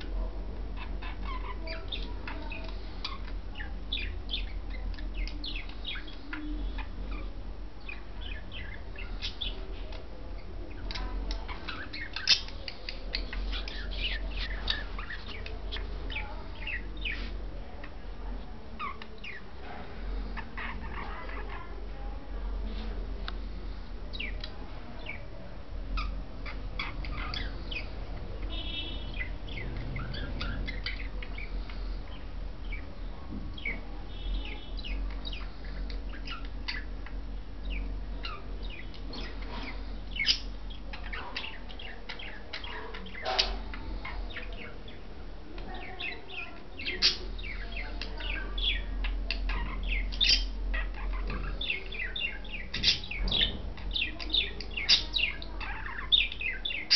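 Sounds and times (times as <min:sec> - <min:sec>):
budgerigars chirping and chattering: 0:00.0 - 0:21.9, 0:23.3 - 0:56.9
low steady hum: 0:00.0 - 0:56.9.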